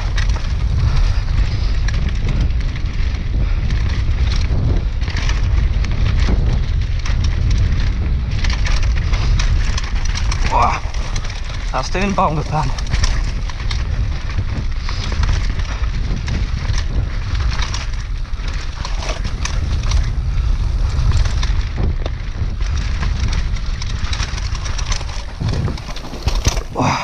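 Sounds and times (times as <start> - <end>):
bike clicks and rattles: 0.0 - 27.0
wind buffeting microphone: 0.0 - 27.0.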